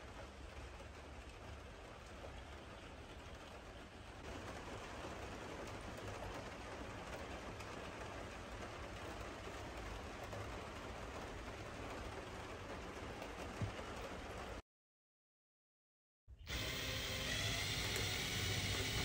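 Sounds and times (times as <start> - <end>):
steady rain: 0.0 - 14.6, 16.5 - 19.0.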